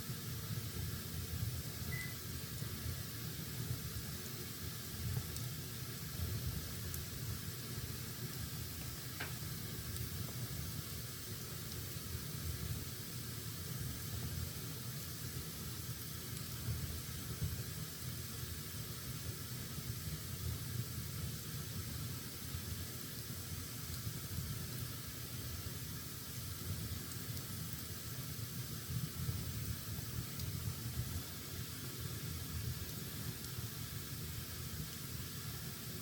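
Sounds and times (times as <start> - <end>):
fire crackle: 0.0 - 36.0
wood fire hissing and rumbling: 0.0 - 36.0.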